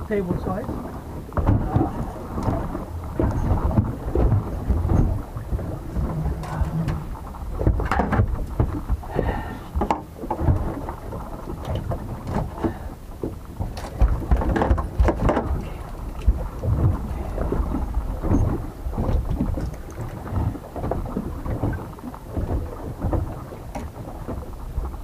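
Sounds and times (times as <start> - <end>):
knocks and thuds on boat deck: 0.0 - 25.0
wind buffeting microphone: 0.0 - 25.0.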